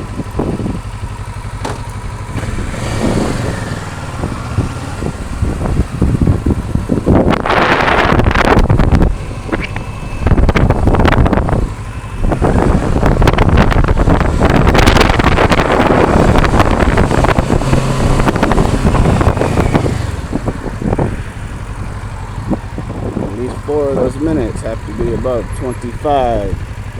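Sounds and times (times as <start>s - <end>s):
motorcycle engine running: 0.0s - 26.9s
wind buffeting microphone: 0.0s - 26.9s.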